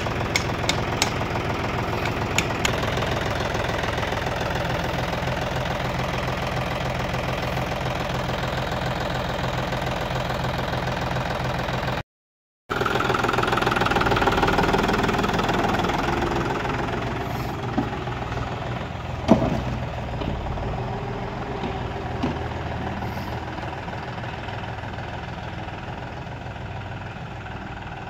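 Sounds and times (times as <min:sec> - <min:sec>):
tractor diesel engine running: 0:00.0 - 0:12.0, 0:12.7 - 0:28.0.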